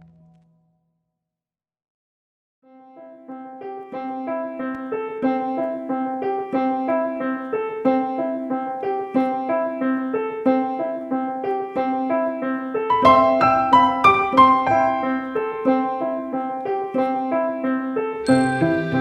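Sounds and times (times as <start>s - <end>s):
piano-like keyboard tune: 2.7s - 19.0s.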